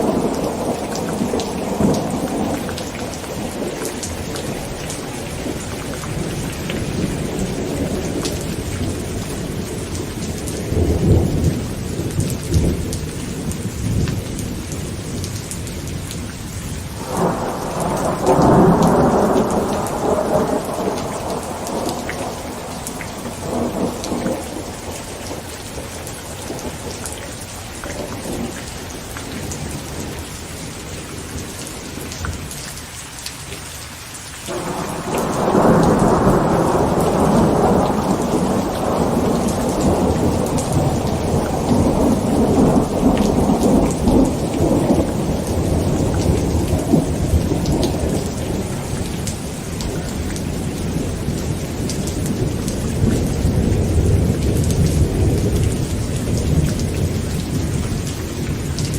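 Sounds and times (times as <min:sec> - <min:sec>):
thunder rumbling: 0:00.0 - 0:16.2, 0:16.9 - 0:27.2, 0:34.5 - 0:58.9
heavy rain on a tent: 0:00.0 - 0:58.9.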